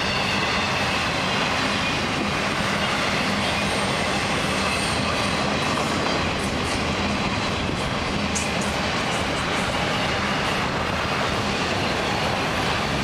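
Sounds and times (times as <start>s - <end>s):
steel wheels rumbling on rails: 0.0s - 13.0s.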